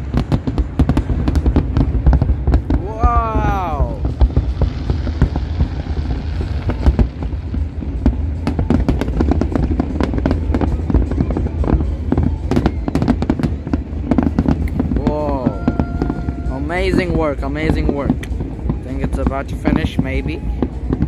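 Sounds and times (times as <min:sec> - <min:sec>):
fireworks crackling: 0:00.0 - 0:21.0
low rumble of fireworks booms: 0:00.0 - 0:21.0.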